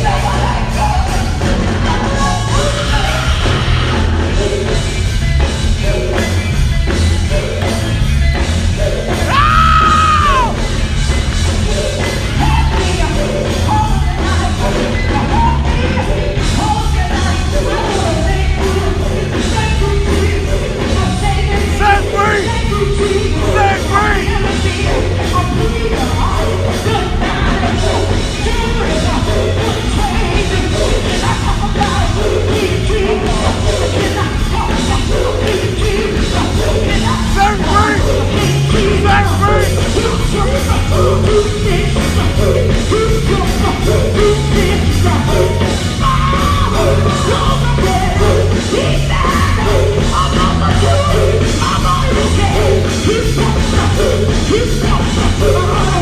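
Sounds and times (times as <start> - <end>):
gospel band playing: 0.0 - 56.0
voices singing and shouting: 0.0 - 56.0.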